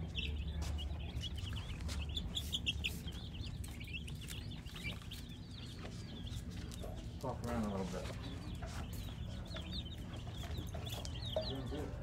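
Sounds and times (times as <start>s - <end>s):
baby chicks peeping: 0.0s - 12.0s.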